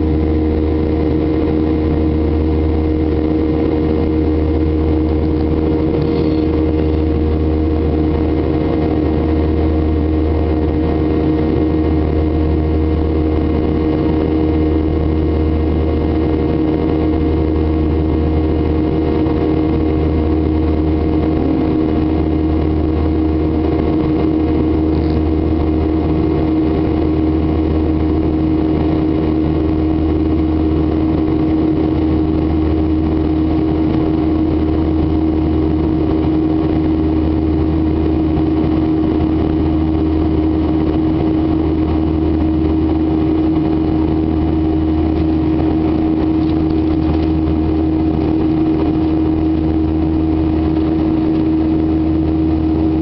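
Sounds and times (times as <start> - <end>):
jet engine drone inside cabin: 0.0 - 53.0.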